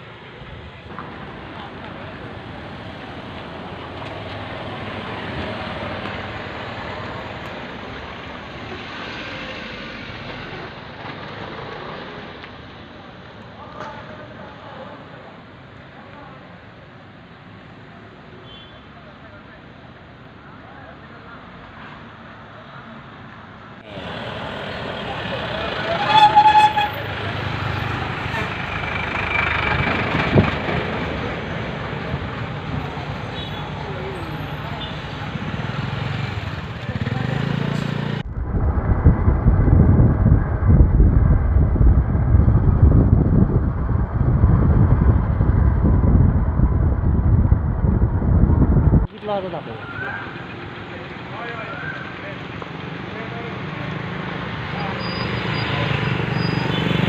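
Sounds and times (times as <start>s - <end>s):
vehicles passing on street: 0.0s - 57.0s.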